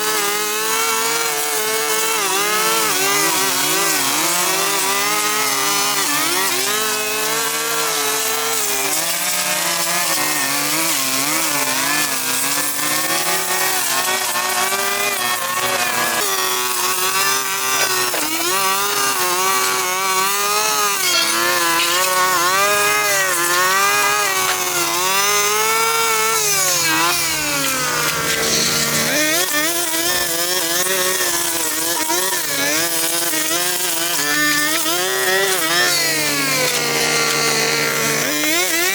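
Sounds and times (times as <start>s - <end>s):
two-stroke power tool running: 0.0s - 38.9s.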